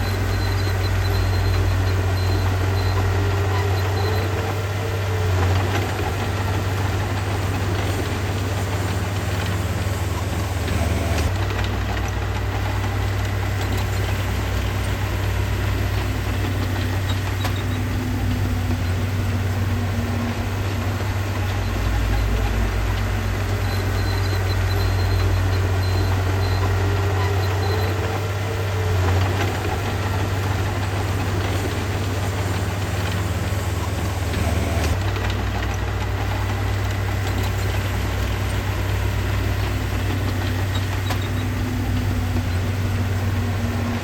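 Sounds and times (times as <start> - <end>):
heavy machinery diesel engine running: 0.0 - 44.0.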